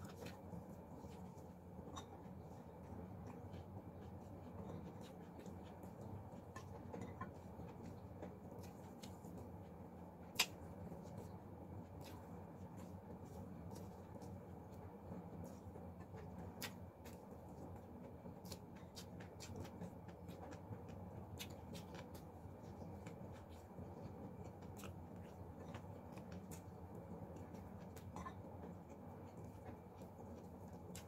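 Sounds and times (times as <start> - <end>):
crunchy food being chewed: 0.0 - 31.0
low steady hum: 0.0 - 31.0.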